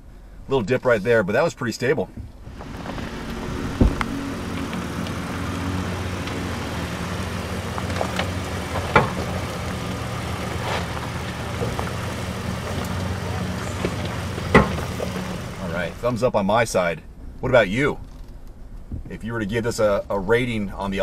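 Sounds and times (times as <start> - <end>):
truck engine running at low revs: 2.2 - 21.0.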